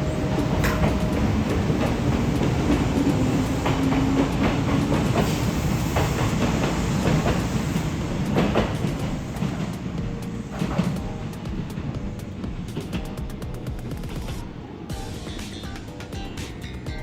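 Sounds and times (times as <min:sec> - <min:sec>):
steady train rumble: 0:00.0 - 0:17.0
train wheels clacking over rail joints: 0:00.2 - 0:14.5.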